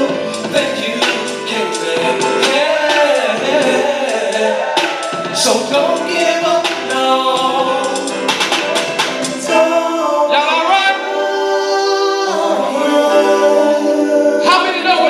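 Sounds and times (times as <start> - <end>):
person singing gospel: 0.0 - 15.0.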